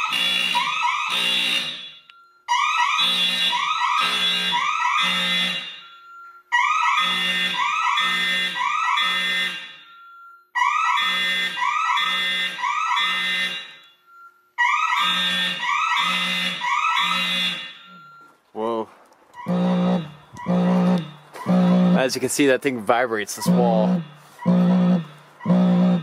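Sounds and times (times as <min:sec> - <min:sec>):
faint steady alarm tone: 0:00.0 - 0:22.2, 0:23.4 - 0:26.0
fire alarm horns pulsing: 0:00.0 - 0:26.0.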